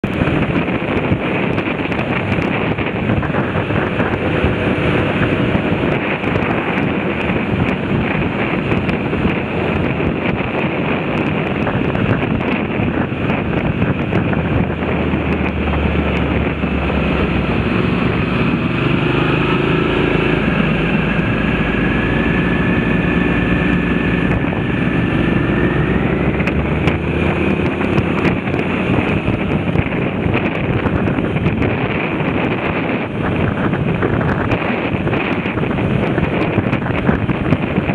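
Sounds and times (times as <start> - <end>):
motorcycle engine running: 0.0 - 37.9
wind rushing over microphone: 0.0 - 37.9.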